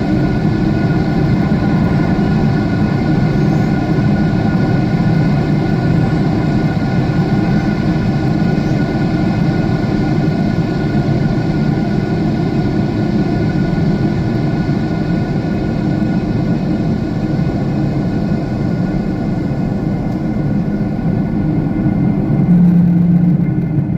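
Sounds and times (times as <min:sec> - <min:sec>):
faint steady whining tones: 0:00.0 - 0:23.9
jet cabin engine and airflow rush: 0:00.0 - 0:23.9.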